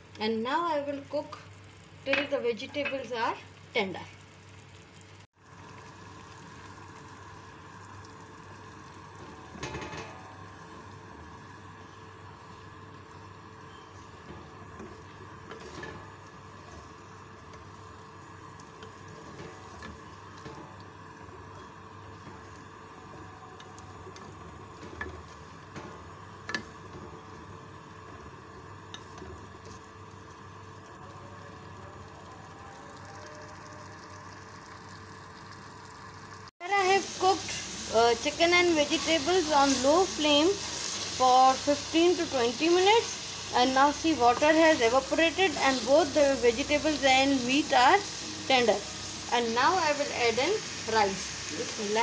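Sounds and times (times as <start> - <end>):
pot simmering with soft bubbling: 0.0 - 52.0.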